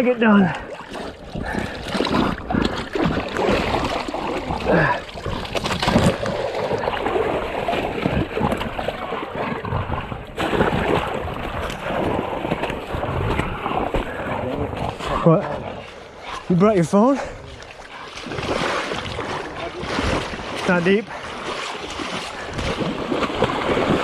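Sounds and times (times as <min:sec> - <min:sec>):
people wading through water: 0:00.0 - 0:24.0
water sloshing and splashing: 0:00.0 - 0:24.0.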